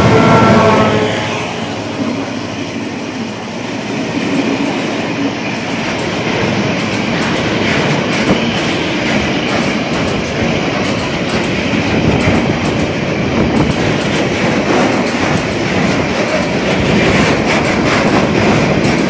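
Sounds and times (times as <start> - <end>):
diesel locomotive engine: 0.0 - 19.0
train wheels rolling on rails: 0.0 - 19.0.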